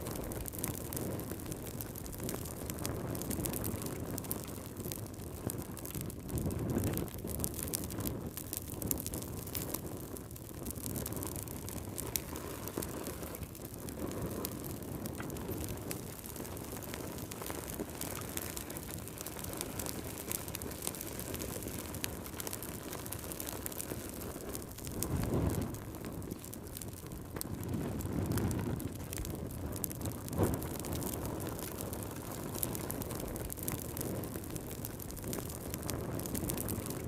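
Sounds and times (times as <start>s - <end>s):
fire crackling and popping: 0.0s - 37.0s
low roar of flames: 0.0s - 37.0s.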